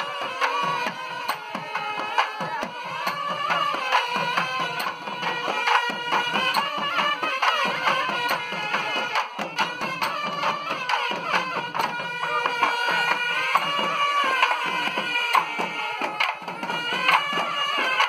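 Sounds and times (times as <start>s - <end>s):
drums beating: 0.0s - 18.0s
reed pipes playing melody: 0.0s - 18.0s.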